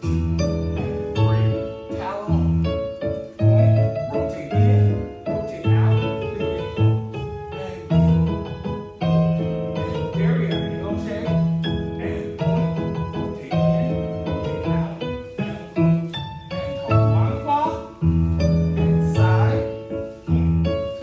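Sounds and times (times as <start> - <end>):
piano music with steady beat: 0.0 - 21.0.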